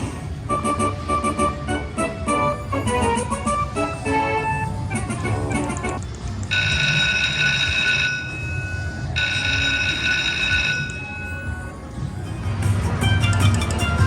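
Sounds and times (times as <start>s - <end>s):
low casino rumble: 0.0s - 14.0s
slot machine melodic notes: 0.4s - 14.0s.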